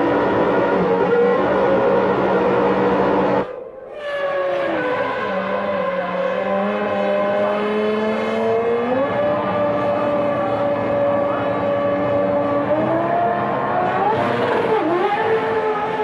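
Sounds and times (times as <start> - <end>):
racing car engine at high revs: 0.0 - 16.0.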